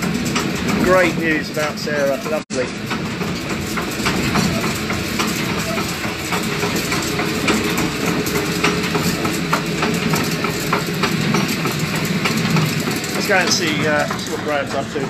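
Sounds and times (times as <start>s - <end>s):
millstones grinding grain: 0.0s - 15.0s
rapid irregular wooden clicking: 0.0s - 15.0s.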